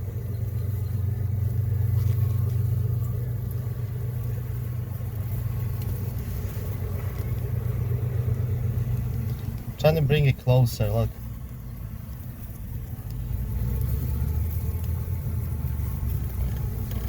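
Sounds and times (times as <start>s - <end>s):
honey bee colony humming: 0.0s - 17.0s.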